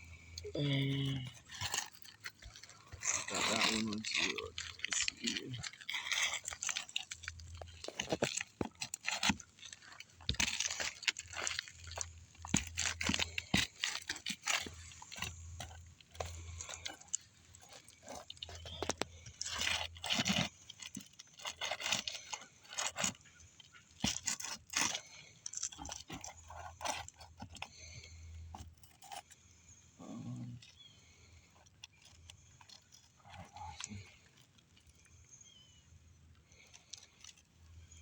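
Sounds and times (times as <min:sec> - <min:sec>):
shingles crunching and scraping: 0:00.0 - 0:29.8, 0:30.6 - 0:38.0.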